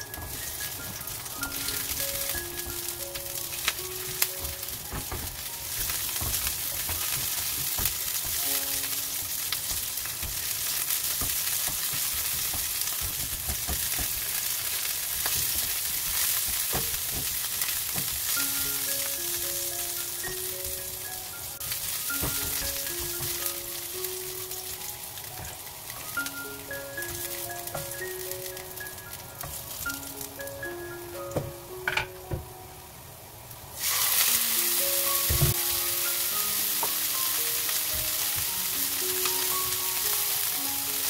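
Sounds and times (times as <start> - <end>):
faint background music: 0.0 - 14.8, 17.8 - 41.0
garlic sizzling in hot oil: 0.0 - 31.1, 33.5 - 41.0.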